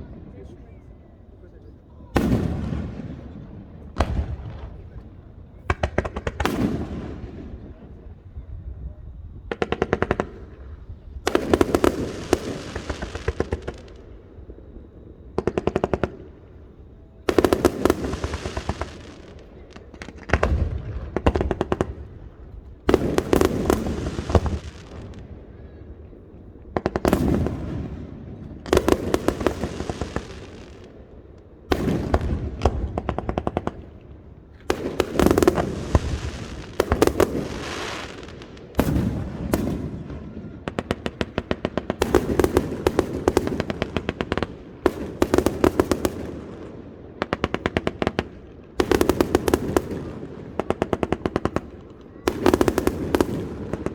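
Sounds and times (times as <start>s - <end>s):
fireworks bangs and cracks: 2.1s - 8.2s, 8.9s - 16.4s, 17.2s - 53.9s.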